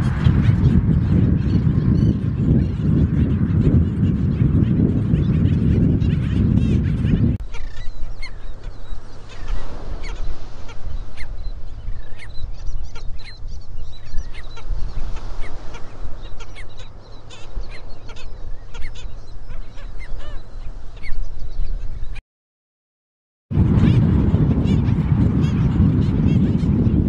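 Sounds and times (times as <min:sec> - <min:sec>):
birds honking barks: 0:00.0 - 0:13.4, 0:14.0 - 0:22.0, 0:23.8 - 0:27.0.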